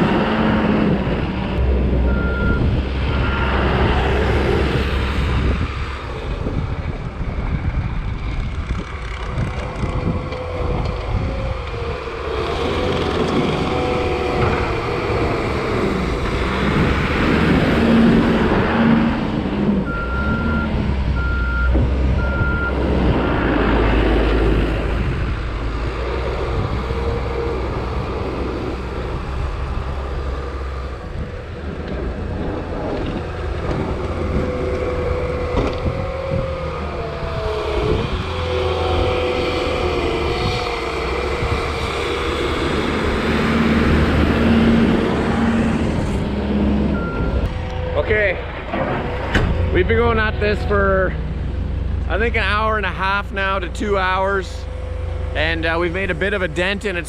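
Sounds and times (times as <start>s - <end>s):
diesel engine working: 0.0s - 57.0s.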